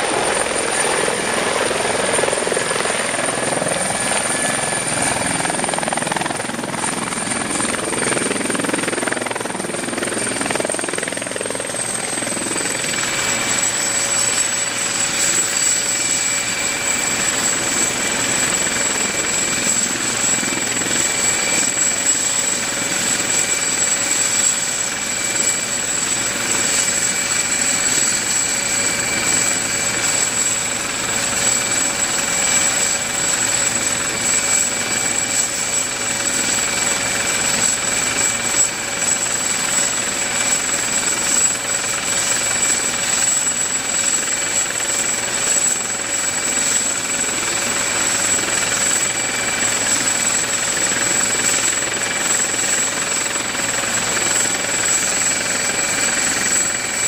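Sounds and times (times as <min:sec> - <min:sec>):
helicopter rotor noise: 0:00.0 - 0:57.0
helicopter turbine whine: 0:00.0 - 0:57.0.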